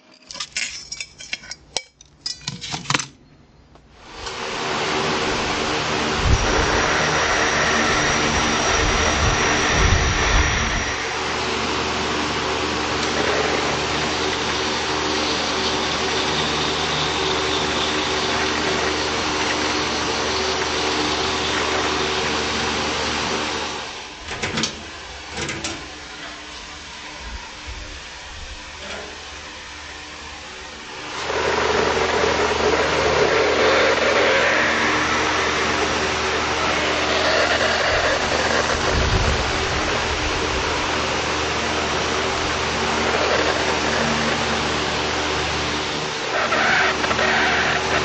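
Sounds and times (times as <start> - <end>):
motor hum: 3.9 - 48.0.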